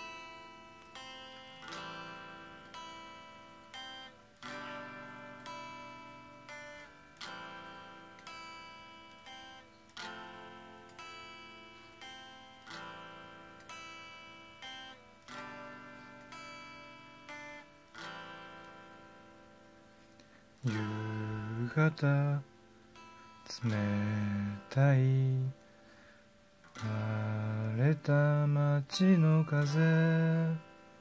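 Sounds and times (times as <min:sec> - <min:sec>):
acoustic guitar chords ringing: 0:00.0 - 0:31.0.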